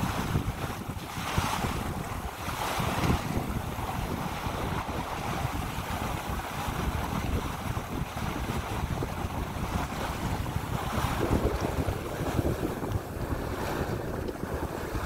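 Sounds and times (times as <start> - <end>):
water rushing along a hull: 0.0 - 15.0
wind buffeting microphone: 0.0 - 15.0.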